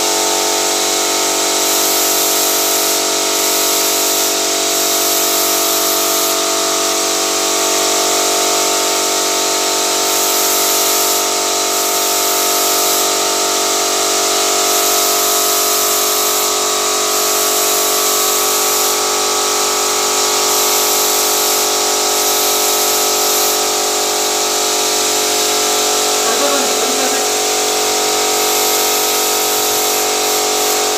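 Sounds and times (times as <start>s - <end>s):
paint spray gun hissing: 0.0s - 30.9s.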